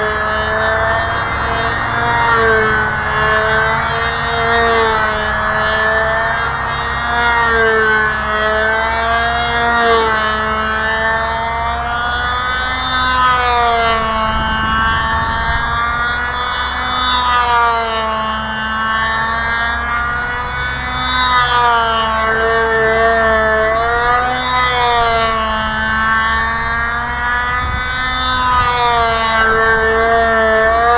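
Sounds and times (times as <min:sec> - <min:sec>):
model airplane engine whine: 0:00.0 - 0:30.9.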